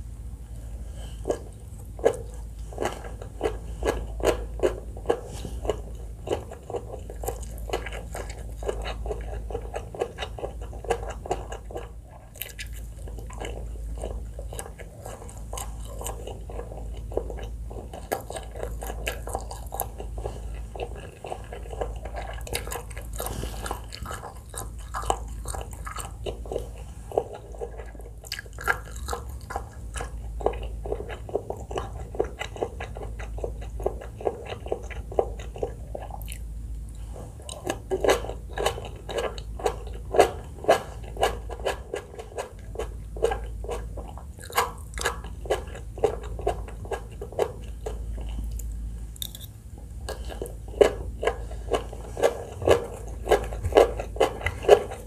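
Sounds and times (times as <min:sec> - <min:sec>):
chewing food: 0:00.0 - 0:55.0.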